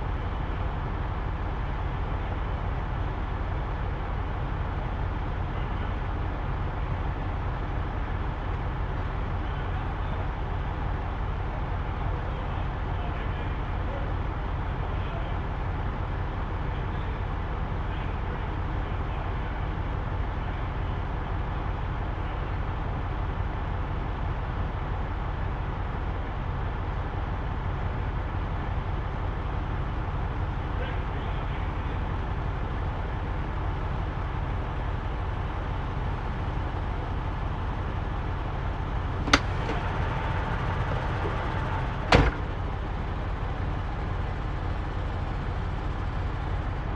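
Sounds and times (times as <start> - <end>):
truck diesel engine idling: 0.0 - 46.9.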